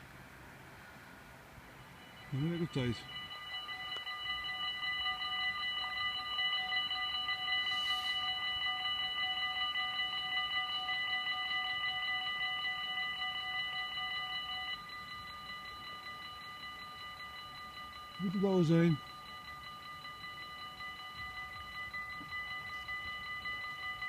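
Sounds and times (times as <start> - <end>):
level crossing bells ringing: 1.6 - 24.0.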